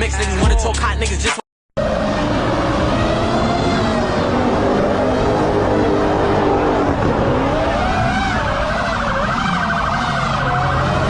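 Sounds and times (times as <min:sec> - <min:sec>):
car engines rumbling: 0:01.8 - 0:11.0
siren wailing: 0:01.8 - 0:11.0.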